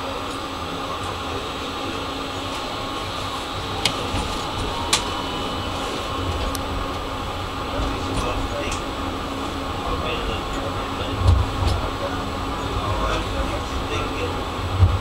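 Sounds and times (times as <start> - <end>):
tram hum and rumble: 0.0 - 15.0.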